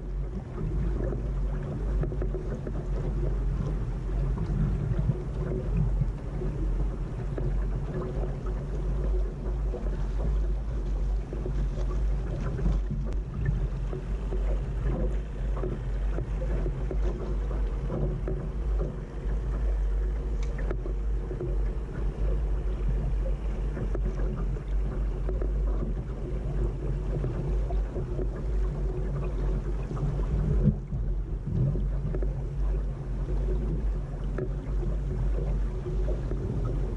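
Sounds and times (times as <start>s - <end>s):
small ticks and knocks: 0.0s - 36.9s
water washing along hull: 0.0s - 36.9s
wind rumble on microphone: 0.0s - 36.9s.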